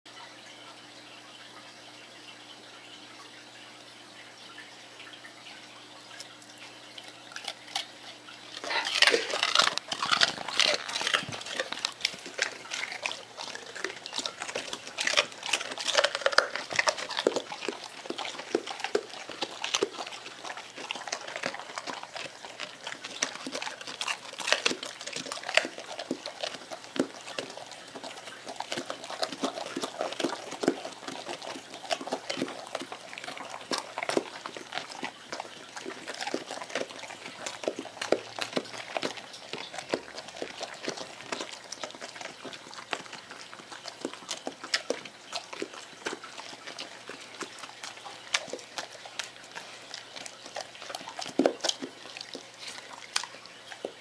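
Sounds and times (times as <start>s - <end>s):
dogs crunching carrots: 5.9s - 54.0s
wet slobbery mouth sounds: 7.3s - 54.0s.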